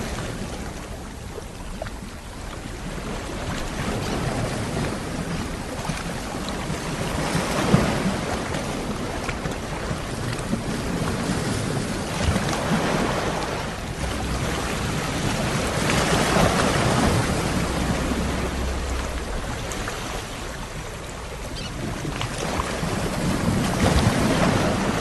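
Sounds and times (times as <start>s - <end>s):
sea waves washing onto shore: 0.0s - 25.0s.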